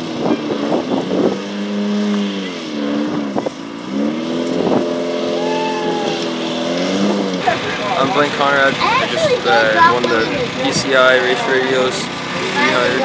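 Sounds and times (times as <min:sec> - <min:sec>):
race vehicle engine running: 0:00.0 - 0:13.0.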